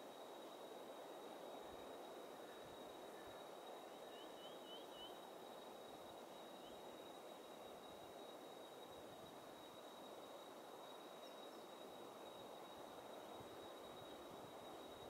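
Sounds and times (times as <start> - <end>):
soft hiss: 0.0 - 15.0.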